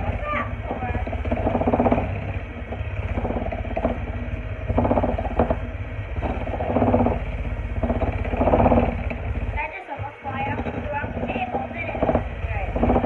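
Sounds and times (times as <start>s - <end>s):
electric hand mixer running: 0.0s - 13.0s.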